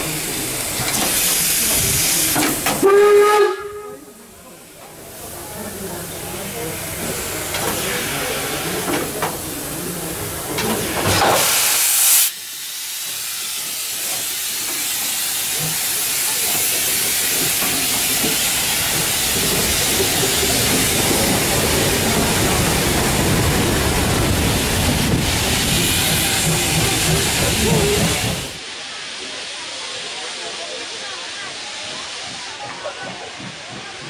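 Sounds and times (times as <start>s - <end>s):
steam locomotive hissing steam: 0.0s - 34.0s.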